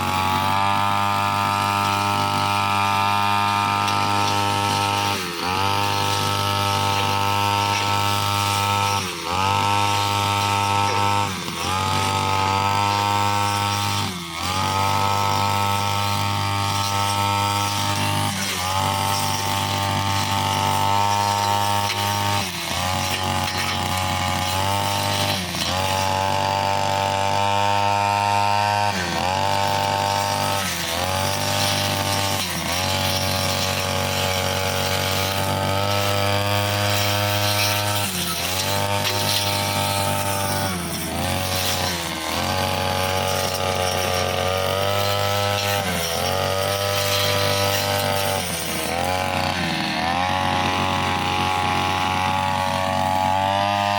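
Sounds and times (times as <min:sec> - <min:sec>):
brushcutter running at high speed: 0:00.0 - 0:53.9.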